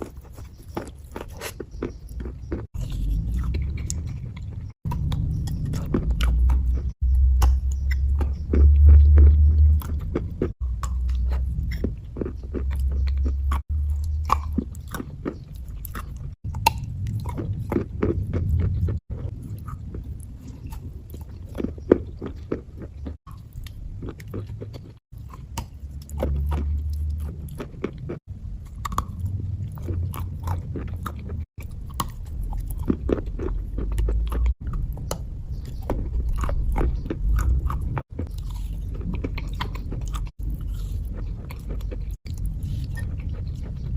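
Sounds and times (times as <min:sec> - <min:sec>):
crunchy chewing: 0:00.0 - 0:43.9.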